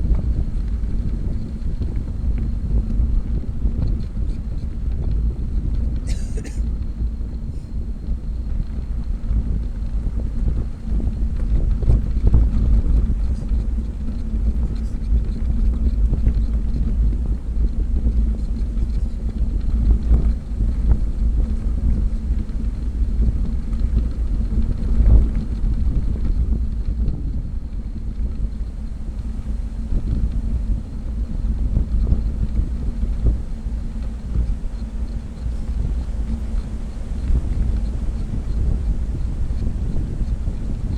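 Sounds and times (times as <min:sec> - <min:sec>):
faint steady hum: 0:00.0 - 0:40.9
wind rushing over microphone: 0:00.0 - 0:40.9.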